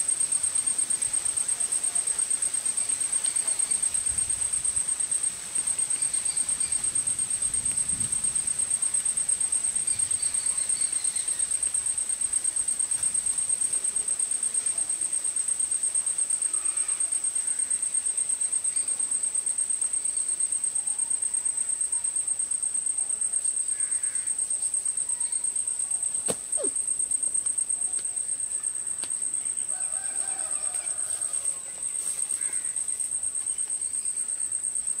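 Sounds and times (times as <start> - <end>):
high-pitched insect trill: 0.0 - 35.0.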